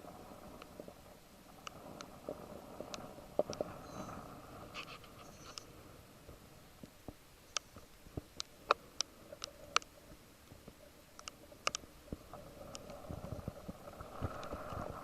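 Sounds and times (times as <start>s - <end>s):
faint steady noise: 0.0s - 15.0s.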